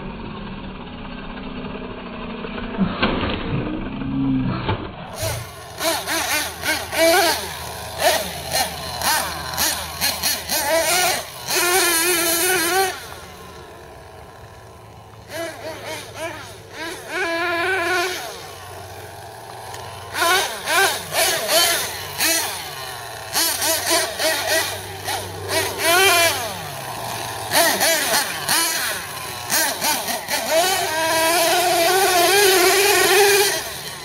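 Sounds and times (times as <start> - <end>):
rc truck engine revving: 0.0 - 34.0.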